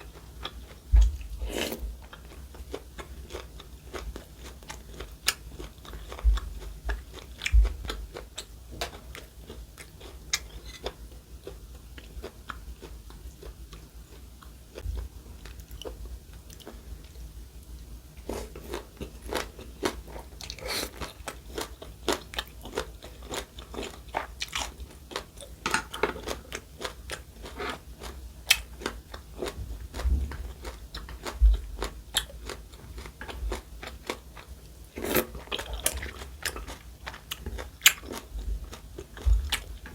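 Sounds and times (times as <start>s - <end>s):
food crunching while chewed: 0.0s - 17.2s, 18.2s - 39.9s.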